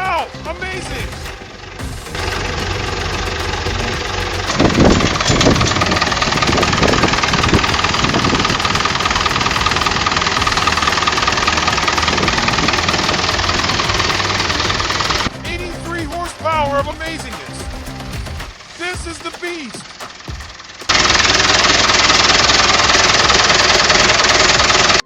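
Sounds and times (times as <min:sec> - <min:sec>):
steady whine: 0:00.0 - 0:25.0
tractor diesel engine running: 0:00.0 - 0:25.0.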